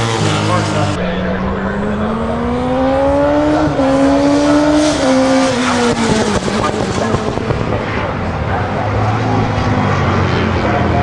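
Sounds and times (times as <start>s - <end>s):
racing motorcycle engine accelerating: 0.0s - 11.0s.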